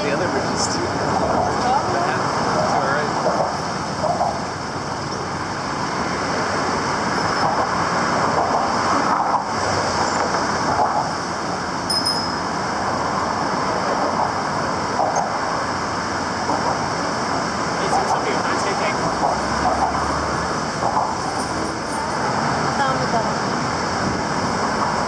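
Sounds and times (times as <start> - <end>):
city traffic hum: 0.0 - 25.0.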